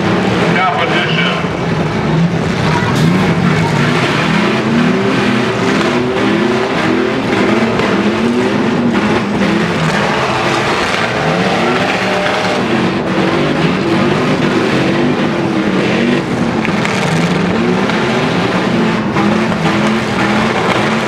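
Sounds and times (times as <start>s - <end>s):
arena noise: 0.0s - 21.0s
truck engines revving: 0.0s - 21.0s.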